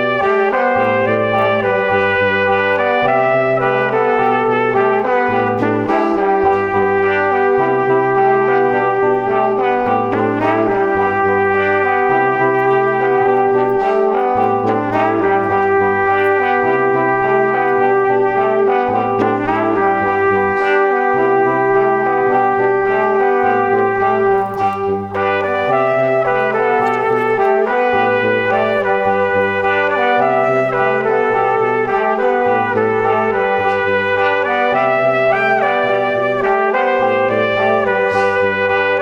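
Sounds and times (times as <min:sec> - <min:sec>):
brass background music: 0:00.0 - 0:39.0.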